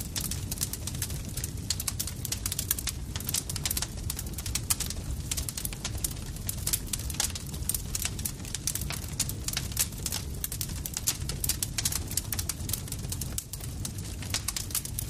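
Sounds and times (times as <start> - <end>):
fire low rumble: 0.0 - 15.0
wood fire popping and snapping: 0.0 - 15.0.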